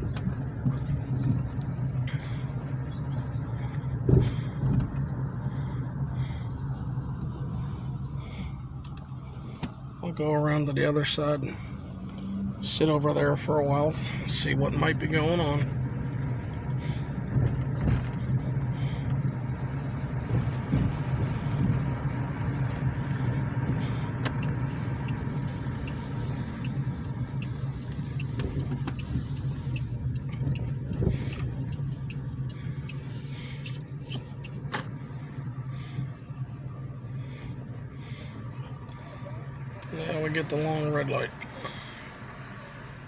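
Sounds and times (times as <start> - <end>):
car engine and road hum: 0.0 - 43.0.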